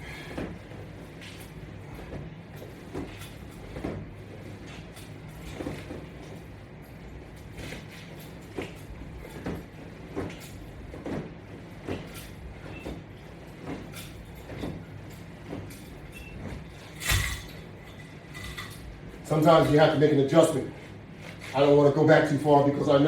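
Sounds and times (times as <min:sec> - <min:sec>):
exercise straps creaking and rustling: 0:00.0 - 0:21.8.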